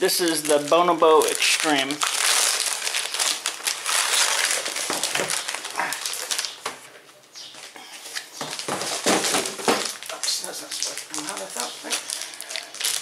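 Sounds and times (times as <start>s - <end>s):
plastic packaging crinkling: 0.0s - 6.9s, 7.5s - 13.0s.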